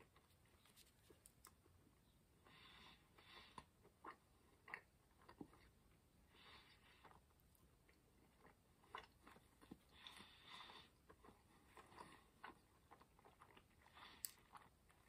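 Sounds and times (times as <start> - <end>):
faint chewing of a sandwich: 0.0 - 15.0.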